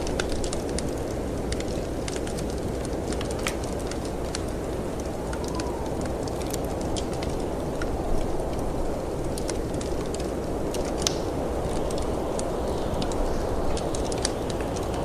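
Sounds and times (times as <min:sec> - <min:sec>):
wind blowing: 0:00.0 - 0:15.0
wood fire crackling: 0:00.0 - 0:15.0.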